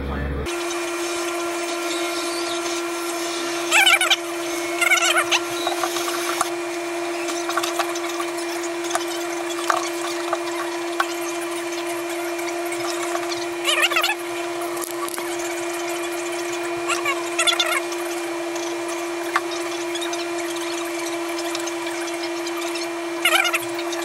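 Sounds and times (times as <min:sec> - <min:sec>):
squeaky rubs of wood: 0:00.5 - 0:24.0.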